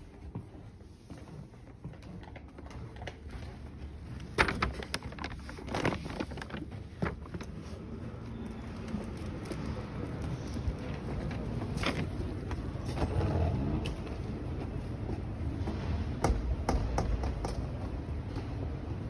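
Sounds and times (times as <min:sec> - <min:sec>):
street traffic: 0:03.2 - 0:19.0.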